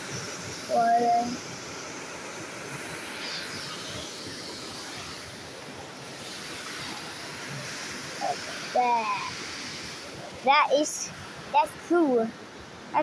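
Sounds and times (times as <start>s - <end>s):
waterfall and rushing creek: 0.0s - 13.0s.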